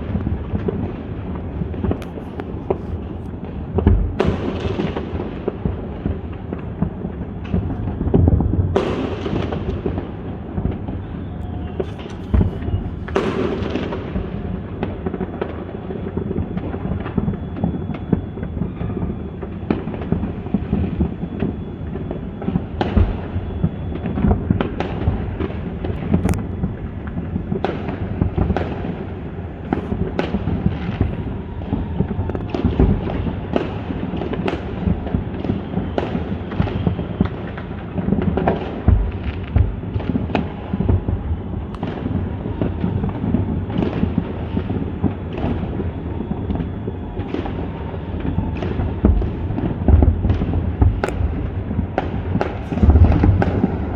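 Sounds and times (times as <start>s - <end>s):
fireworks sharp bangs: 0.0s - 17.3s, 22.7s - 53.9s
distant fireworks rumble: 0.0s - 53.9s.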